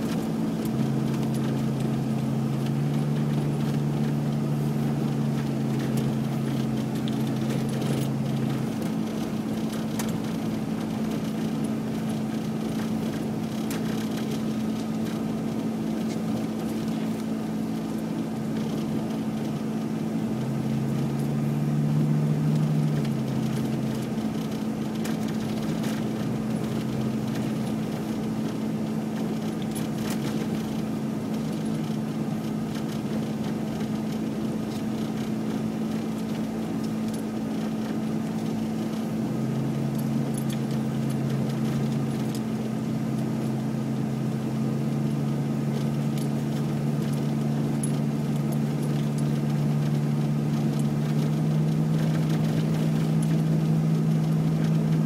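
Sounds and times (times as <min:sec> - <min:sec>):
car cabin hum: 0:00.0 - 0:55.0.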